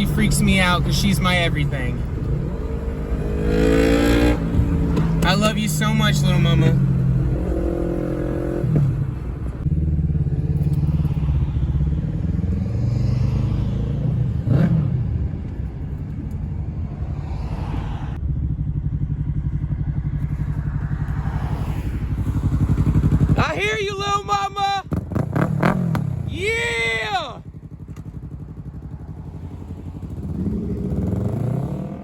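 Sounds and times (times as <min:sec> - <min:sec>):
motorcycle engine running: 0:00.0 - 0:17.0, 0:18.2 - 0:32.0.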